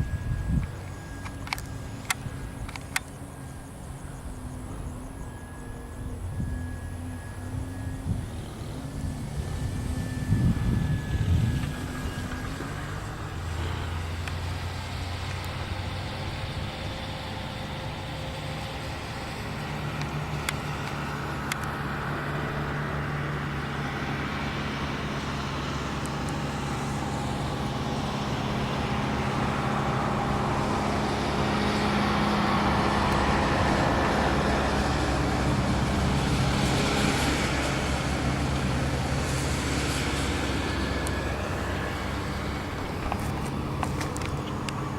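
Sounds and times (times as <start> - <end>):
model plane engine drone: 0.0 - 44.9.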